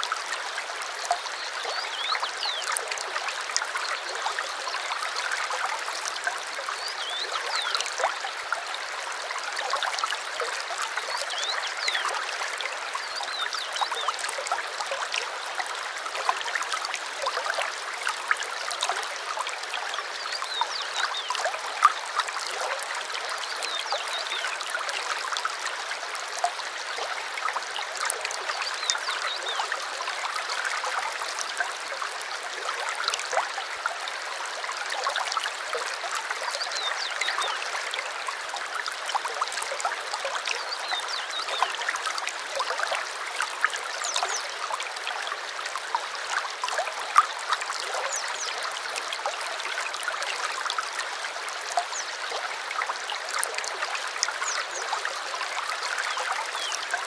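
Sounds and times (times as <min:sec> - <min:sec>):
small stream flowing: 0:00.0 - 0:57.0.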